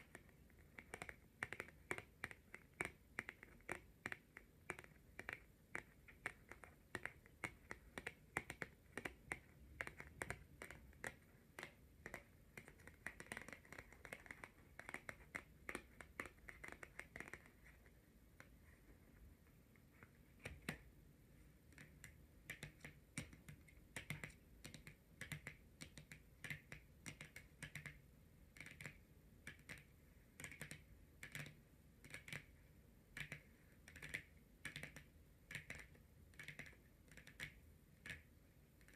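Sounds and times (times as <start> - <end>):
fingernails tapping on cards: 0.0 - 18.6, 21.7 - 38.9.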